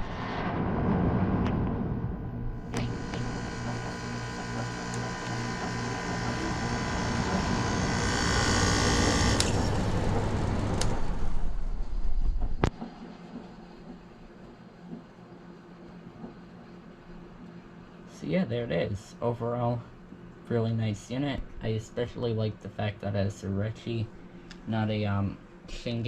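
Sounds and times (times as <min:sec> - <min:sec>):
air conditioner humming: 0:02.0 - 0:26.0.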